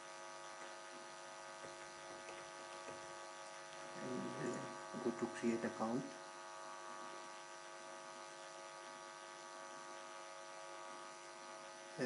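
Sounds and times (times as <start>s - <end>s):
faint electrical hum: 0.0s - 12.0s
low hiss: 0.0s - 12.0s.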